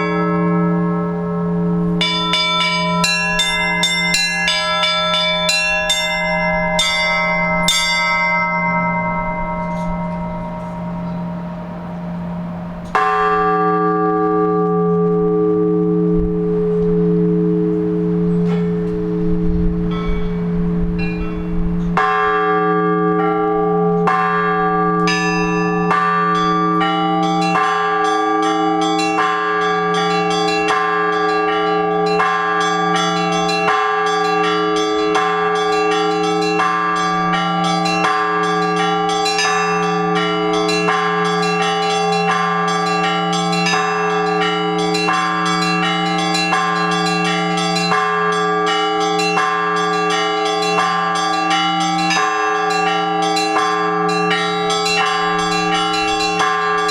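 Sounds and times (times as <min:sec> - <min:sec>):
church bells pealing: 0:00.0 - 0:56.9
large bell humming: 0:00.0 - 0:56.9.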